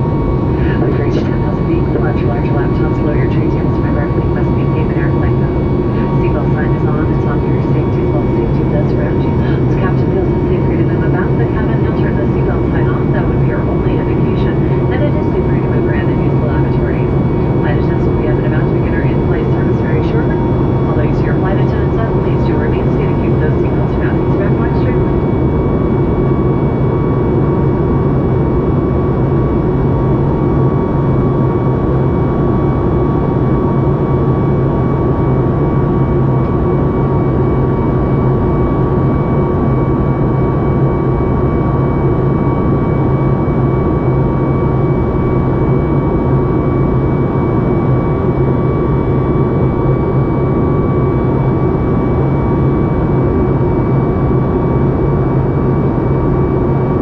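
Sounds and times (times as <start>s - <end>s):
airplane cabin engine and airflow rush: 0.0s - 57.0s
low hum: 0.0s - 57.0s.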